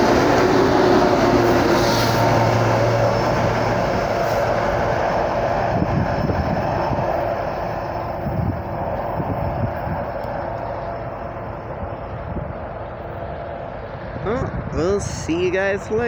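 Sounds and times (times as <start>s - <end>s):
diesel locomotive engine drone: 0.0s - 16.0s
train wheels rumbling on rails: 0.0s - 16.0s.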